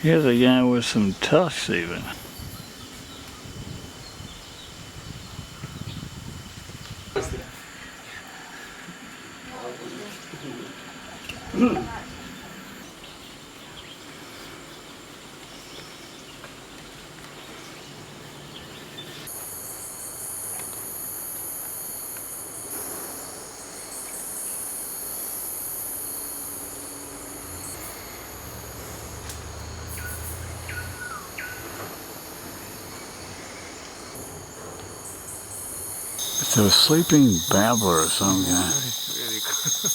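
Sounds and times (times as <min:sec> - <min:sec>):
insects chorus: 0:00.0 - 0:16.3, 0:19.0 - 0:39.9.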